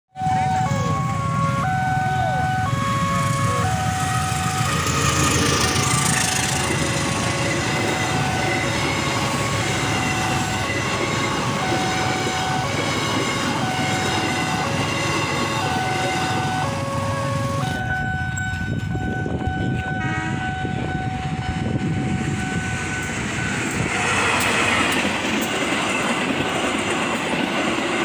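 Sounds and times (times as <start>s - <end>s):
crossing warning alarm tones: 0.2s - 28.0s
diesel locomotive passing: 0.2s - 28.0s
train coaches rumbling: 0.2s - 28.0s.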